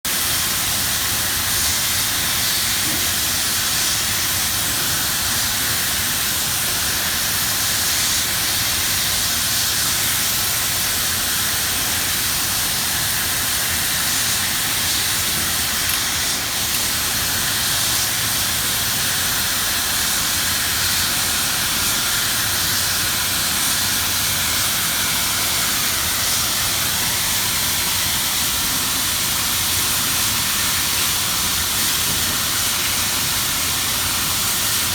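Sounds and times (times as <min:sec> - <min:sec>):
torch flame hissing: 0:00.1 - 0:34.9.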